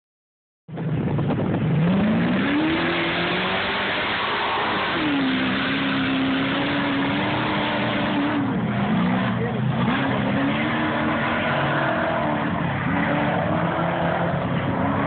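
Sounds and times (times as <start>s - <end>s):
race vehicle engine running hard: 0.7s - 15.0s.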